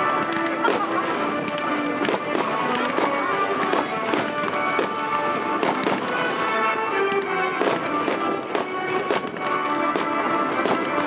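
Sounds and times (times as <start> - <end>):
fireworks bursting with sharp bangs: 0.0 - 11.0
music playing: 0.0 - 11.0.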